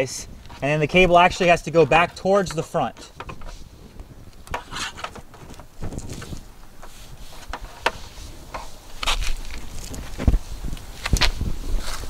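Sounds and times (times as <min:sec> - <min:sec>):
clicks and rustles of handling cable: 0:00.4 - 0:12.0.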